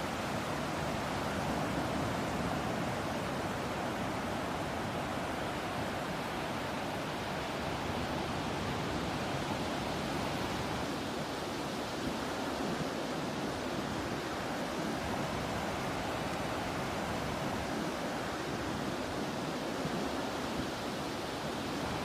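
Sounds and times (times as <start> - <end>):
sea breeze: 0.0 - 22.0
waves washing: 0.0 - 22.0.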